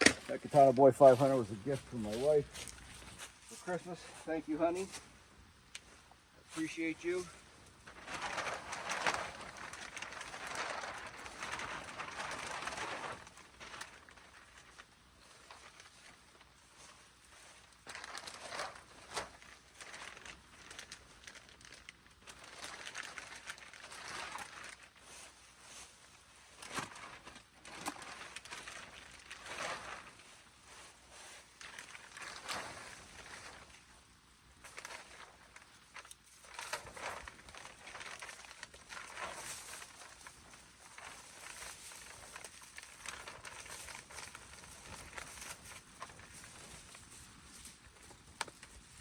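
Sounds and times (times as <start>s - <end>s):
plastic sheeting crinkling: 0.0s - 5.2s, 5.8s - 49.0s.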